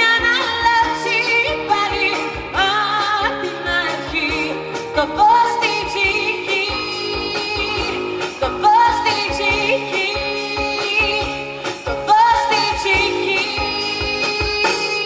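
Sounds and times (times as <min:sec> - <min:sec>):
drums keeping a beat: 0:00.0 - 0:15.0
live pop band: 0:00.0 - 0:15.0
woman singing into a microphone: 0:00.0 - 0:15.0.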